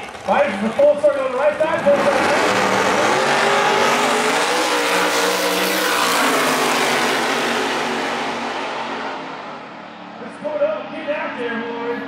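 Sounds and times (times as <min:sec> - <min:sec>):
drag cars at full throttle: 0:00.0 - 0:12.0.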